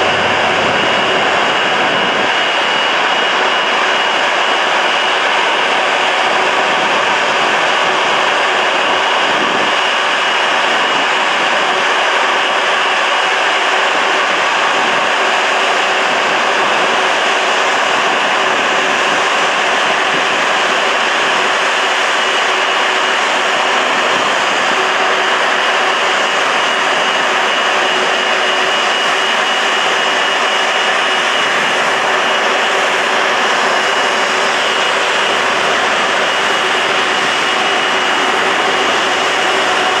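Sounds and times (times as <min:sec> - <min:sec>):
jet engines idling: 0:00.0 - 0:40.0.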